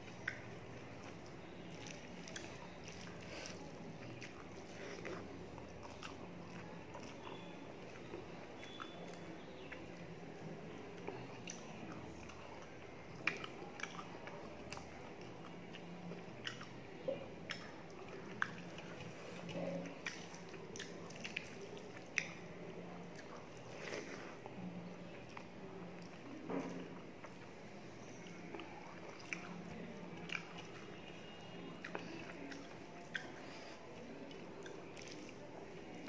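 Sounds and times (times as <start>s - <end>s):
chewing and lip-smacking: 0.0s - 36.0s.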